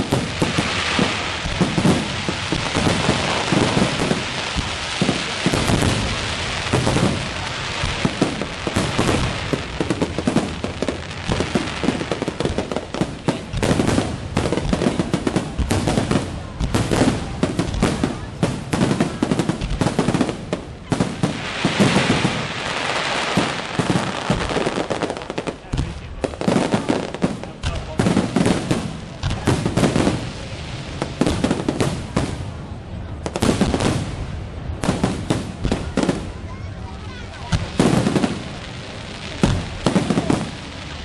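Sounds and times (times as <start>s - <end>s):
fireworks bursting and crackling: 0.0s - 41.0s.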